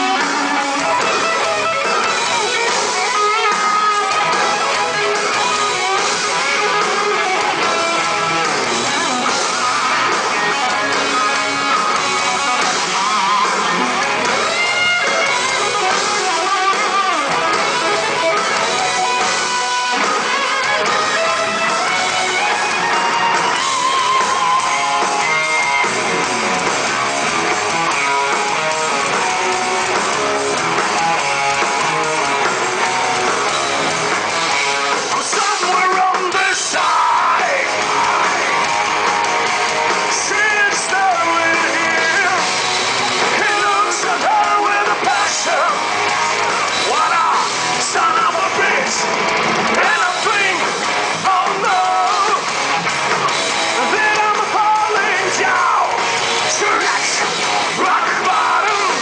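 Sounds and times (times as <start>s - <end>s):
electric guitars: 0.0s - 59.0s
heavy metal band playing live: 0.0s - 59.0s.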